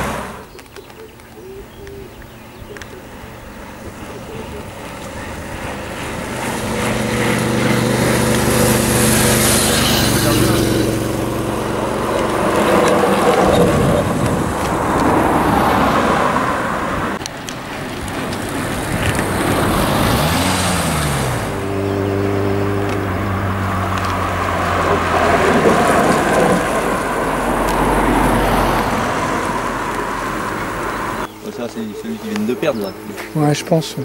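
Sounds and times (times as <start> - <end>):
engine revving: 0.0 - 0.9, 1.8 - 34.0
cars passing on road: 0.0 - 34.0.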